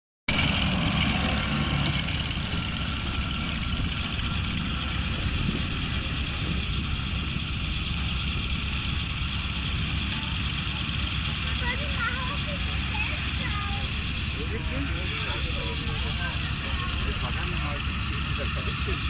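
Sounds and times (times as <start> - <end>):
model tank engine rumble: 0.3 - 19.0.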